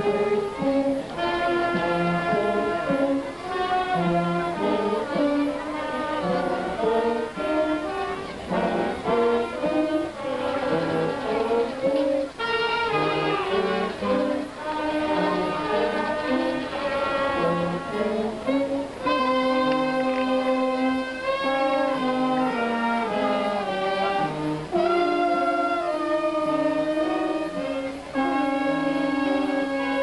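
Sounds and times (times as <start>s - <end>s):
slow procession music: 0.0s - 30.0s.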